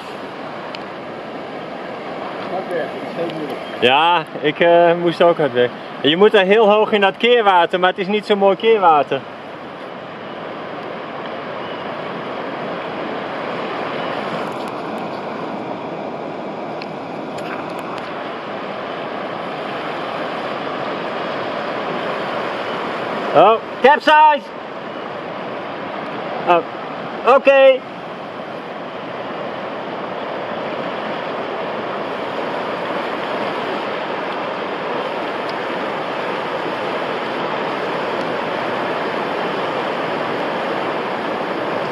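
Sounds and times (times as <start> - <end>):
fast water rushing: 0.0 - 41.9.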